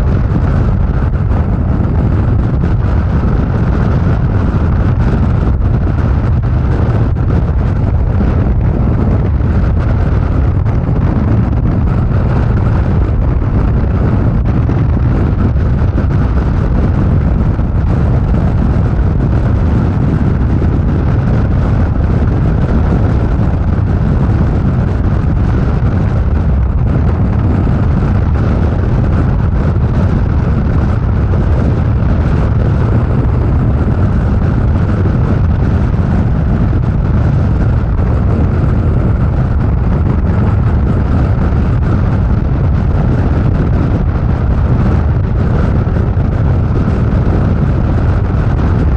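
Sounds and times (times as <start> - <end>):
road noise: 0.0 - 48.9
wind rush on microphone: 0.0 - 48.9.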